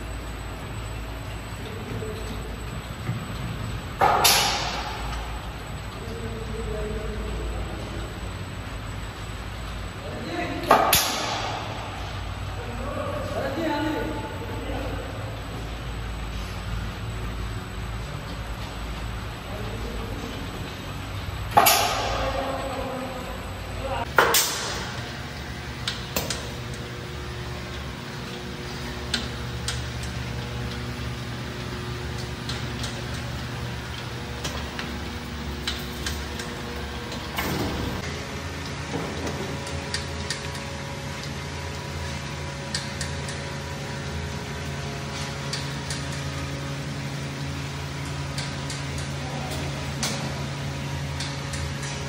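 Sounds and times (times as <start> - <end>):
conveyor humming: 0.0 - 52.0.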